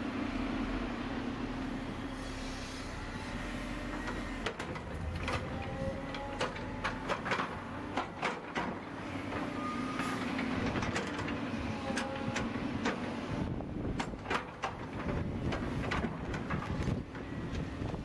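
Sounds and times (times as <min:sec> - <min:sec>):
excavator engine humming: 0:00.0 - 0:18.0.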